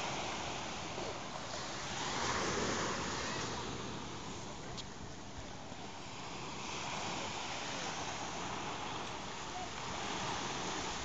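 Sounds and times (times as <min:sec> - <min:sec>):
small waves washing onto beach: 0:00.0 - 0:11.0.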